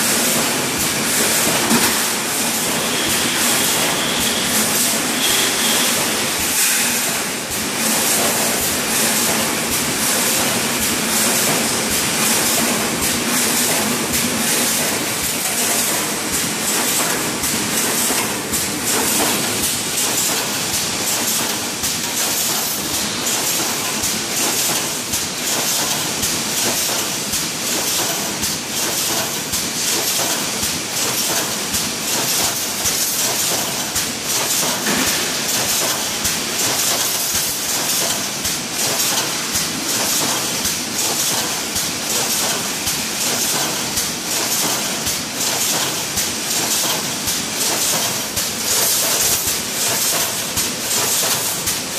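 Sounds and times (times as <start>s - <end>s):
welding machine hiss and clatter: 0.0s - 51.9s.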